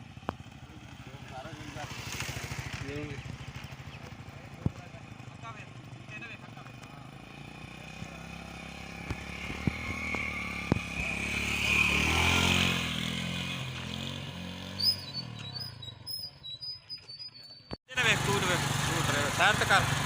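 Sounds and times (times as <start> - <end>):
motorcycle engine passing: 0.0 - 17.2.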